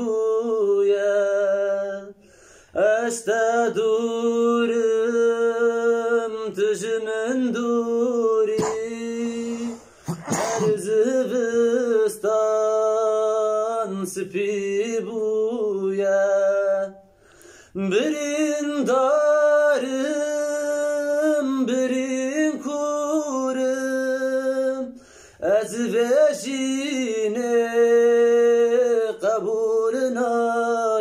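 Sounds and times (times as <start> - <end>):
man singing unaccompanied: 0.0 - 31.0.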